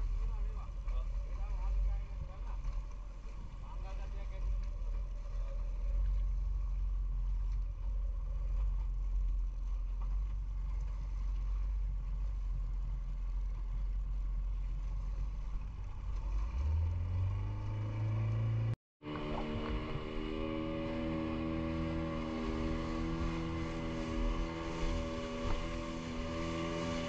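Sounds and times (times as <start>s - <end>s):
higher engine hum: 0.0s - 27.0s
small boat engine rumble: 0.0s - 27.0s
water noise: 0.0s - 27.0s
wind: 0.0s - 27.0s.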